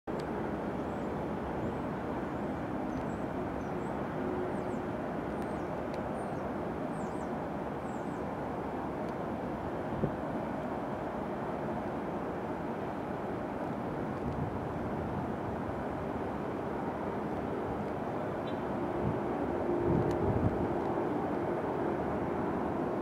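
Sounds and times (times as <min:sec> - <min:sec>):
jet engine rumble: 0:00.1 - 0:23.0.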